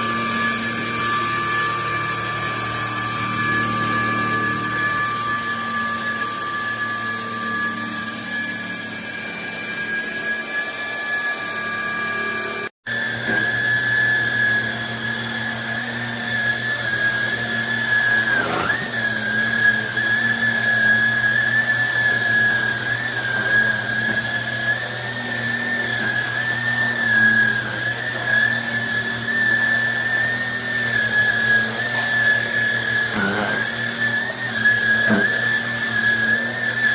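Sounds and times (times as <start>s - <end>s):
stick vacuum motor whining: 0.0s - 36.9s.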